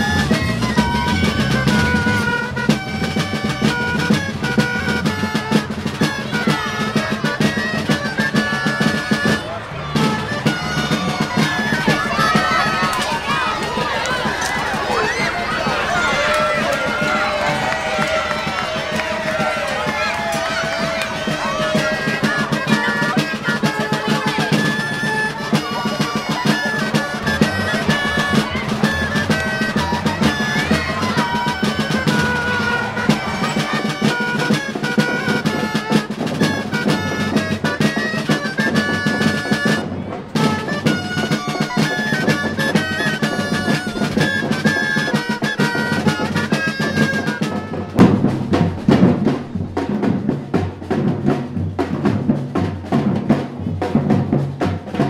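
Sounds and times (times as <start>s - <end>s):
drum group pounding barrel drums: 0.0s - 55.0s.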